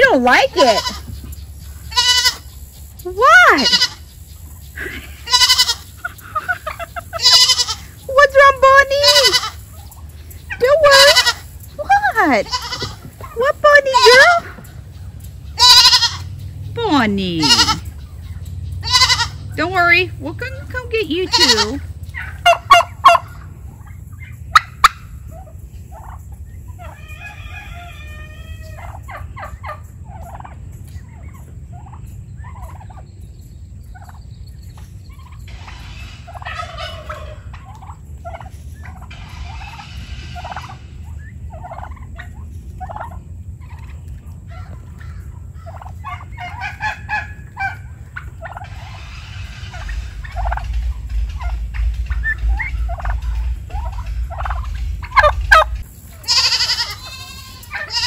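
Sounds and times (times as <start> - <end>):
turkeys gobbling: 0.0 - 58.0.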